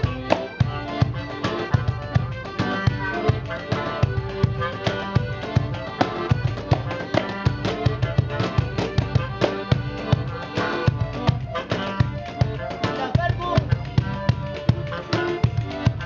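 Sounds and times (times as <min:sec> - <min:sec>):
live band instrumental: 0:00.0 - 0:16.0.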